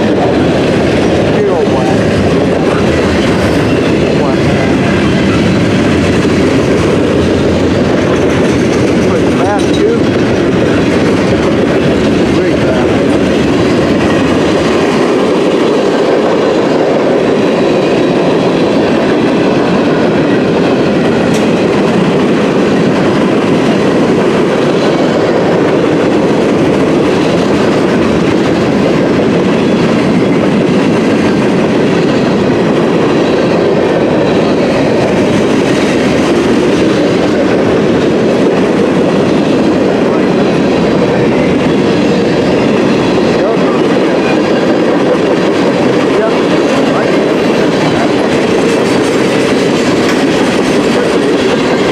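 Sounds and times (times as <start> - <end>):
freight train wheels rumbling: 0.0 - 51.9.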